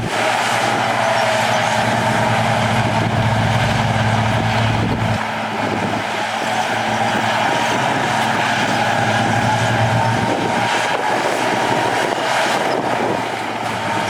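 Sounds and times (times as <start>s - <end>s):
heavy diesel machinery droning: 0.0s - 14.0s.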